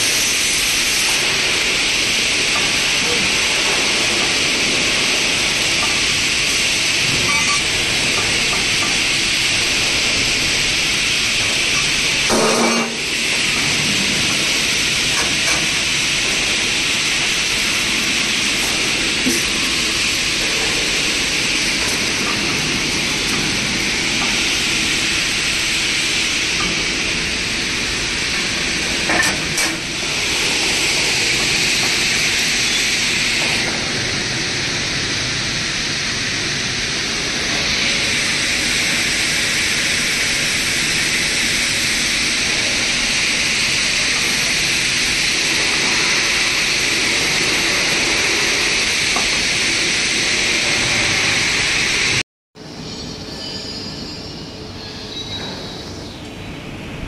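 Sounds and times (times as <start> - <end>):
laser cutter gas hiss: 0.0 - 52.2.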